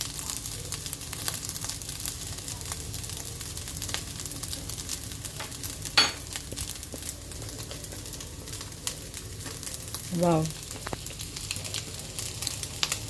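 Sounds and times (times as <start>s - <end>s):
rice sizzling in a pan: 0.0s - 13.0s.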